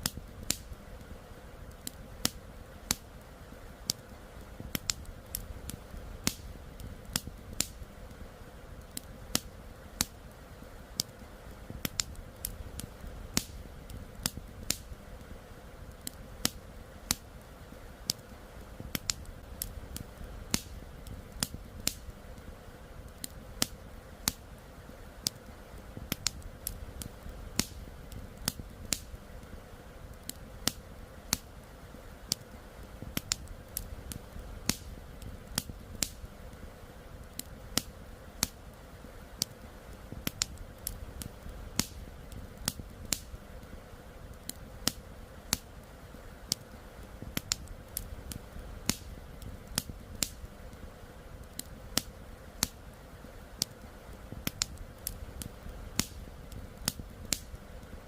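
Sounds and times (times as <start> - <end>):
low background hiss: 0.0 - 58.0
wood fire crackling: 0.0 - 58.0.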